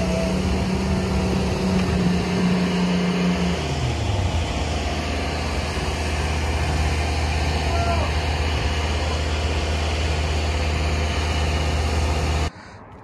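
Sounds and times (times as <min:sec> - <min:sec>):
diesel truck engine running: 0:00.0 - 0:12.5.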